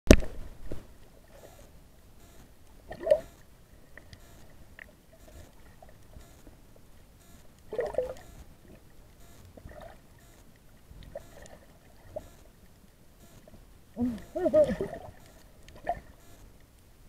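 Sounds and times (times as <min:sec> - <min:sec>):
faint clicks: 0:01.0 - 0:14.4, 0:15.2 - 0:16.9.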